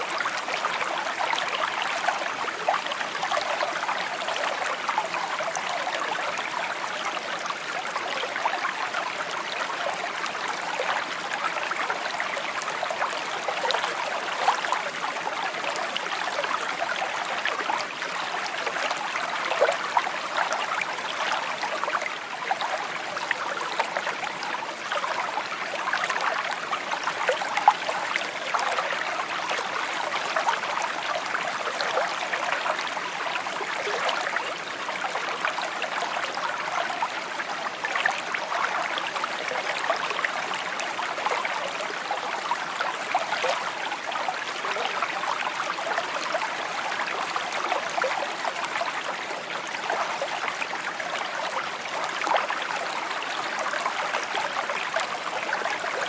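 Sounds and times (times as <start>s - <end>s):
brook babbling: 0.0s - 56.0s.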